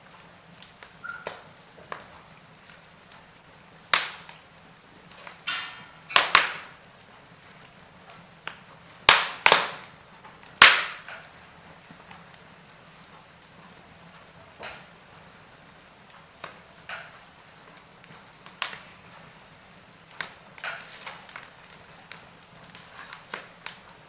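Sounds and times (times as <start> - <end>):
faint fire hiss: 0.0 - 24.0
fire crackling and popping: 0.0 - 24.0.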